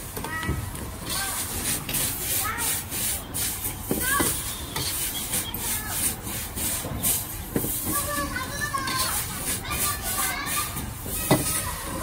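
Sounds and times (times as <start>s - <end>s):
metal utensils scraping wok: 1.0s - 12.0s.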